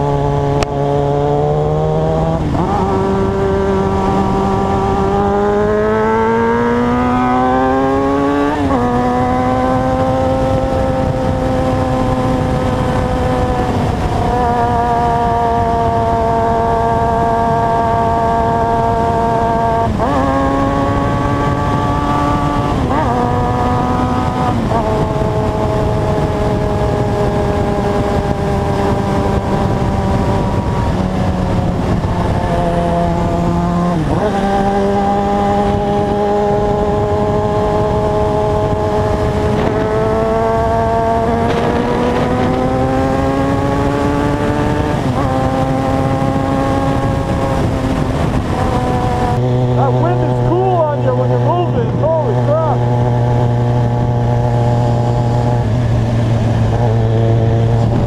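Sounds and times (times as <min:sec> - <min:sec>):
motorcycle engine shifting gears: 0:00.0 - 0:58.0
wind noise: 0:00.0 - 0:58.0.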